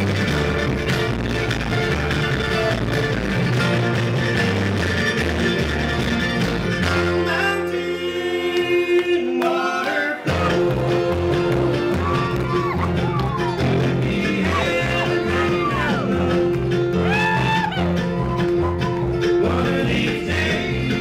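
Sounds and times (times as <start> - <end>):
bluegrass string band playing: 0.0 - 21.0.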